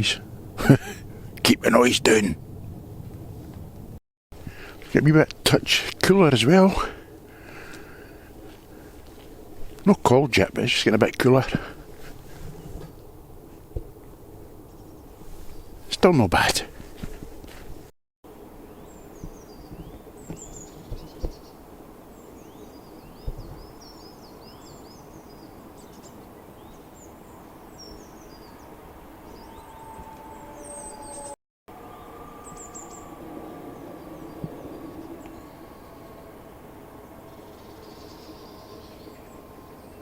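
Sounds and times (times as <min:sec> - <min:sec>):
faint steady drone: 0:00.0 - 0:15.9, 0:18.3 - 0:40.0
outdoor background hiss: 0:00.0 - 0:40.0
songbirds chirping: 0:00.0 - 0:40.0.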